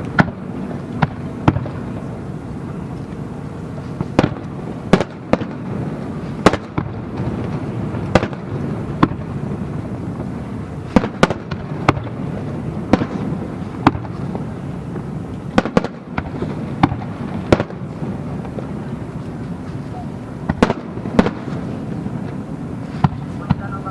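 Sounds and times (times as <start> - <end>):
continuous low rumble: 0.0 - 23.9
fireworks bangs: 0.0 - 23.9.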